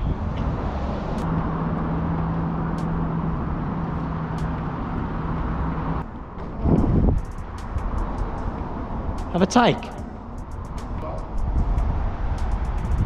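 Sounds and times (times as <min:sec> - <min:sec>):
low engine hum: 0:00.0 - 0:13.0
road traffic rumble: 0:00.0 - 0:13.0.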